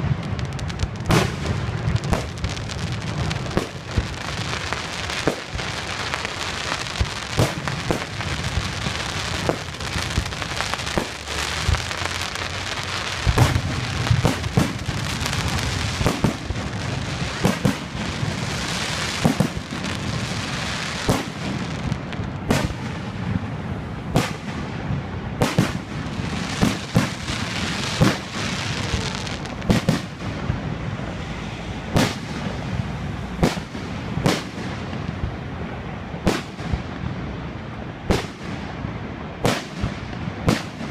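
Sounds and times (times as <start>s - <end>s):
fireworks booming: 0.0s - 40.9s.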